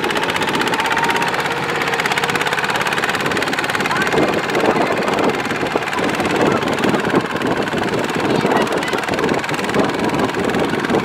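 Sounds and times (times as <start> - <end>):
diesel tractor engine chugging: 0.0 - 11.0.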